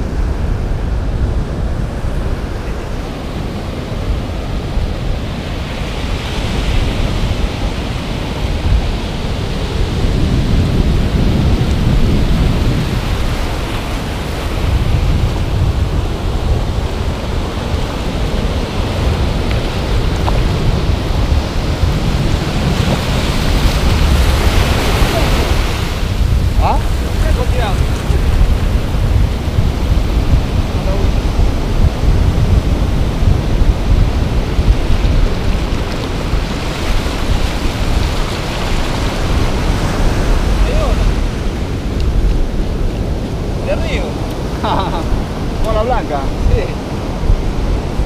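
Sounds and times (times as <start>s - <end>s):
surf breaking on beach: 0.0s - 48.0s
wind buffeting microphone: 0.0s - 48.0s.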